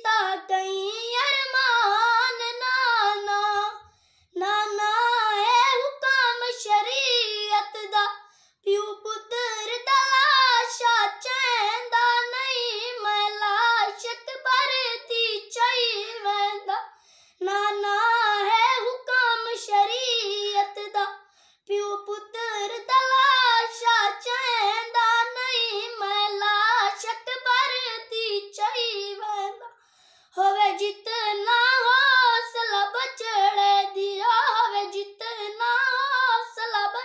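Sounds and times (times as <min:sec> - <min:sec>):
boy singing unaccompanied: 0:00.0 - 0:03.8, 0:04.4 - 0:16.8, 0:17.4 - 0:29.7, 0:30.4 - 0:37.0.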